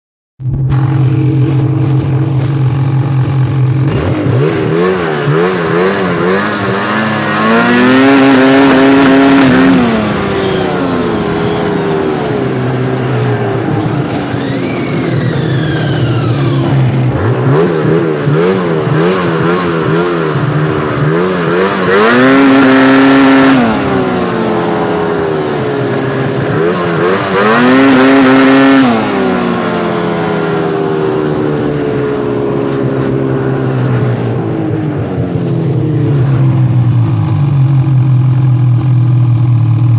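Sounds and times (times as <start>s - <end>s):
snowmobile engine revving: 0.5s - 39.9s.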